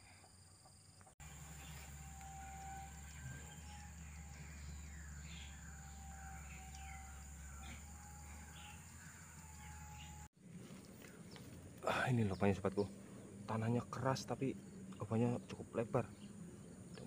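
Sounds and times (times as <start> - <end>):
high insect hum: 0.0 - 17.0
birds chirping: 0.7 - 17.0.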